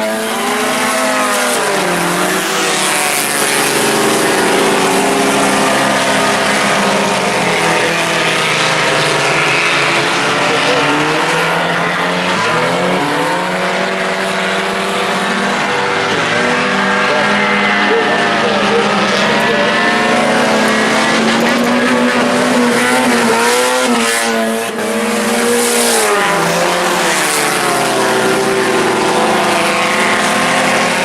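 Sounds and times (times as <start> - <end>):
race car engines racing: 0.0 - 31.0.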